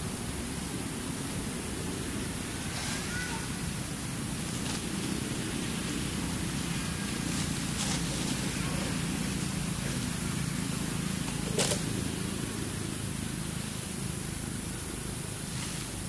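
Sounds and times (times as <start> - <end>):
hiss: 0.0 - 16.0.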